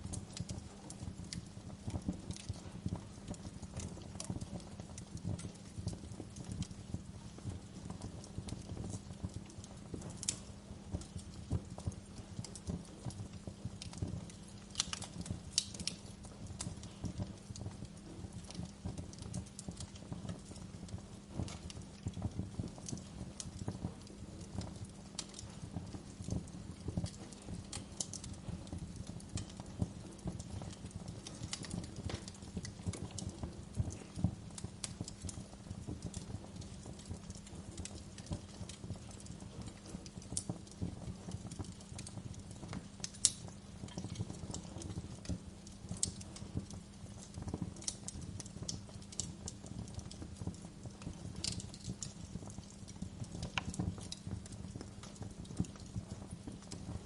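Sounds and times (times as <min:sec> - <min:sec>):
gentle rain: 0:00.0 - 0:57.0
wood fire crackling: 0:00.0 - 0:57.0.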